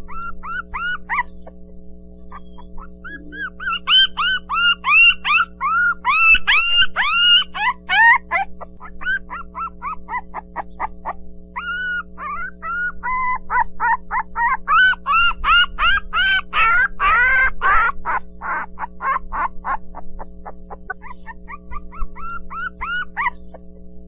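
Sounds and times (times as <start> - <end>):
puppies yelping and whining: 0.0 - 24.0
steady background hum: 0.0 - 24.0.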